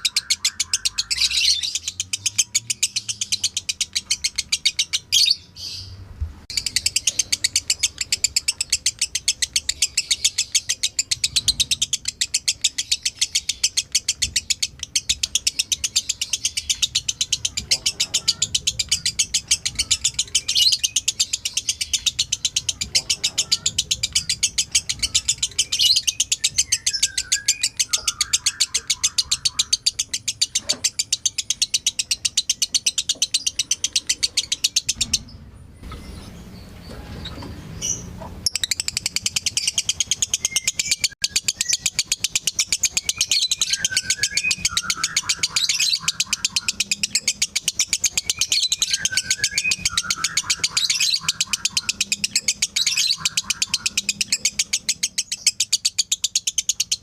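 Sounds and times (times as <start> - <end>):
lovebird chattering song: 0.0 - 57.0.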